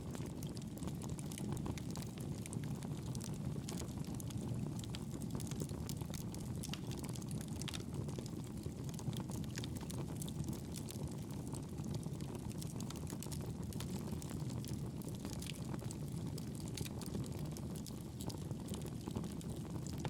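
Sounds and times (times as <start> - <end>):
campfire flames rumbling: 0.0 - 20.0
wood crackling and popping: 0.0 - 20.0.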